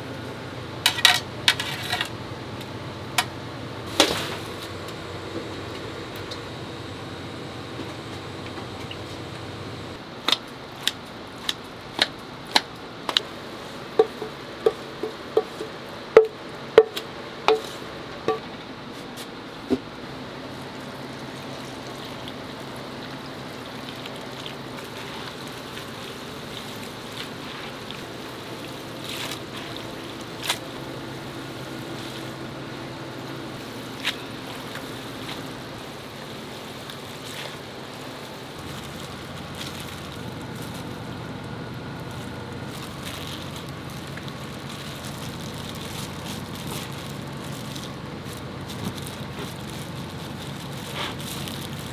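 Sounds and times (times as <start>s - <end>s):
kitchen background noise: 0.0s - 51.9s.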